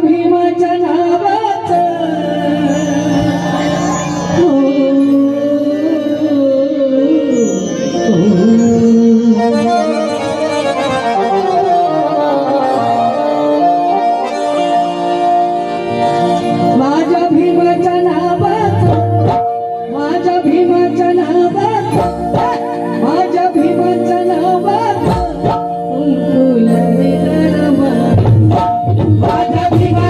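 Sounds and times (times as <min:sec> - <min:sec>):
reed instrument melody: 0:00.2 - 0:30.0.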